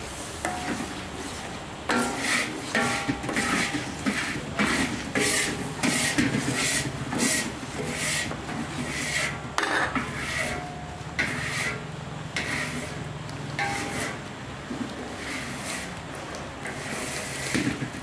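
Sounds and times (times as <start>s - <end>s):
metal ladle scraping in wok: 0.2s - 18.0s.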